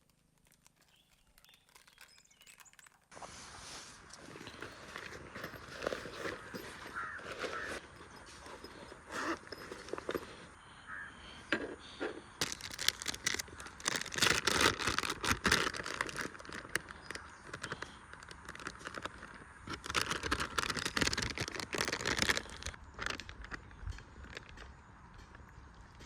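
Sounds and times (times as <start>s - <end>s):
dense rustling and crinkling: 0.0s - 26.0s.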